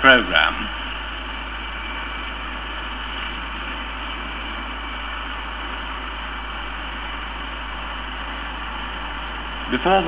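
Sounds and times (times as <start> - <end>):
steady engine rush: 0.0 - 10.0.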